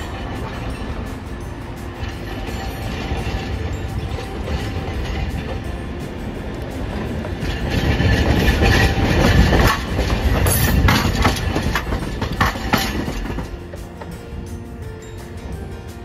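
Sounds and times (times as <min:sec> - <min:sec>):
tram running rumble: 0:00.0 - 0:16.0
tram wheels clacking over rails: 0:00.0 - 0:16.0.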